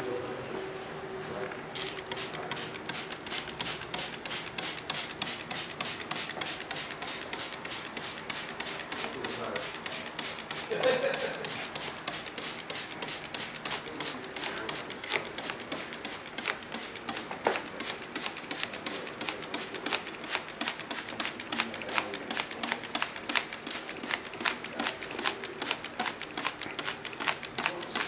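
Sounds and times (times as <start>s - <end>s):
rapid irregular clicking: 1.8s - 28.0s.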